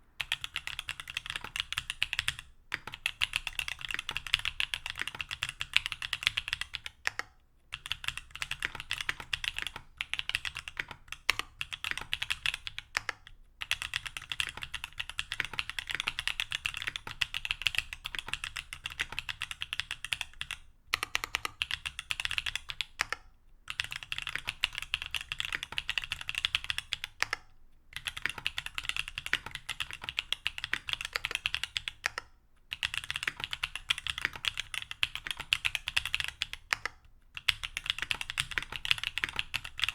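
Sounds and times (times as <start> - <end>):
mechanical keyboard typing: 0.2 - 39.9.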